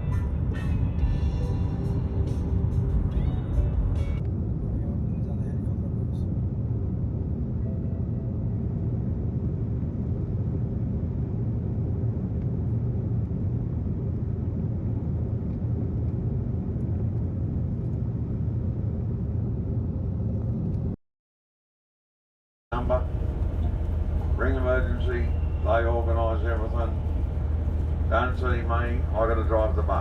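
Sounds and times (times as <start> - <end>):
road noise: 0.0 - 21.0, 22.7 - 30.0
vehicle engine rumble: 0.0 - 21.0, 22.7 - 30.0.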